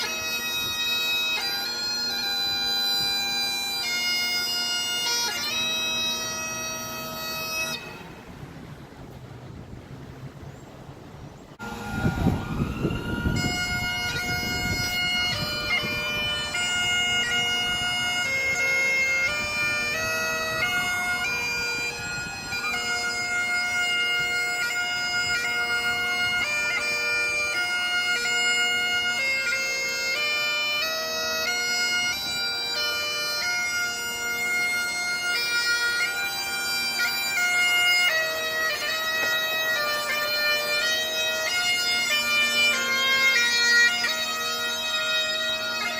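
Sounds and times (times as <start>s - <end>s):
bagpipes playing slow tune: 0.0s - 8.4s, 11.6s - 45.9s.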